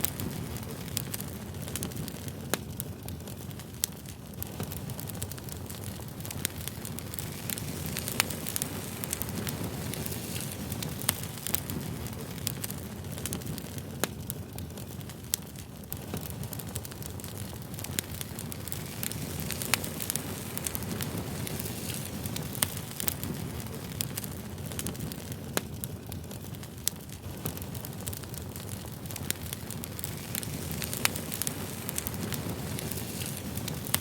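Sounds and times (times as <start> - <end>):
burning wood crackling and popping: 0.0 - 34.0
campfire flames rumbling: 0.0 - 34.0.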